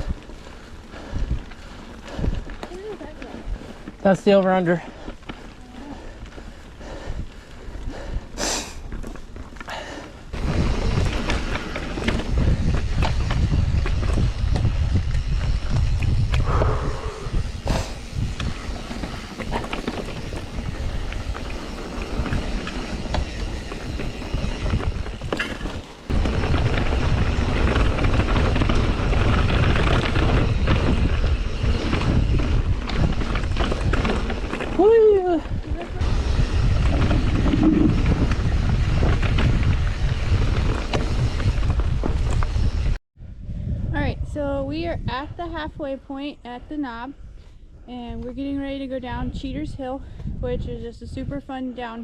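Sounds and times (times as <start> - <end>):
bike knocking and rattling: 0.0 - 16.6, 17.3 - 43.0
bike tyre rumble on dirt: 0.0 - 45.9
wind buffeting microphone: 0.0 - 52.0.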